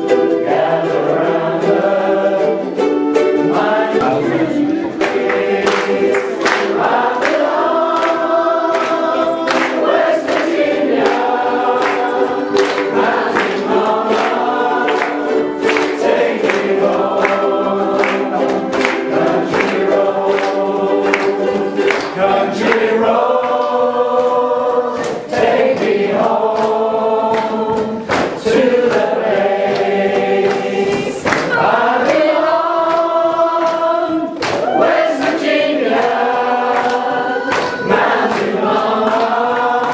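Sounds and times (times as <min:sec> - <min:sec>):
group singing in harmony: 0:00.0 - 0:39.9
strummed ukuleles: 0:00.0 - 0:39.9.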